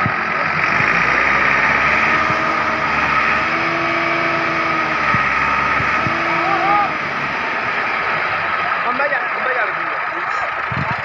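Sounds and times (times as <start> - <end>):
steady whine: 0.0 - 11.0
tractor diesel engine running: 0.0 - 11.0.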